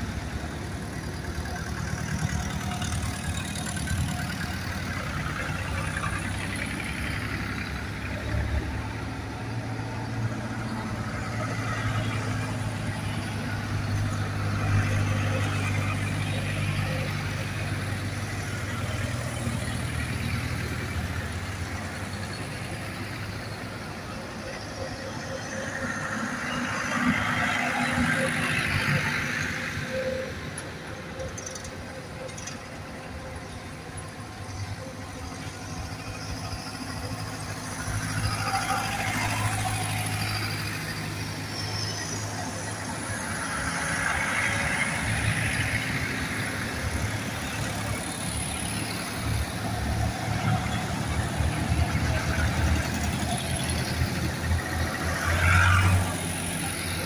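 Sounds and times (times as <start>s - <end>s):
tractor engines passing: 0.0s - 57.0s
tyres on tarmac road: 0.0s - 57.0s.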